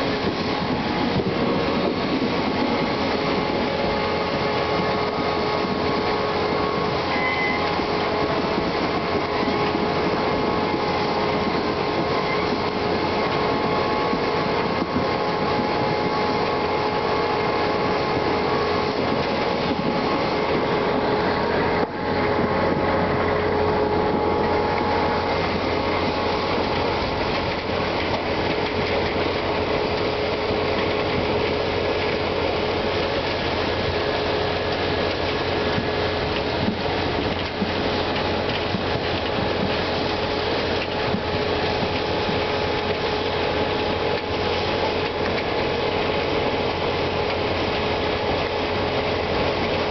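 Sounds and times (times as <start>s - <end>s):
machine engine and conveyors: 0.0s - 49.9s.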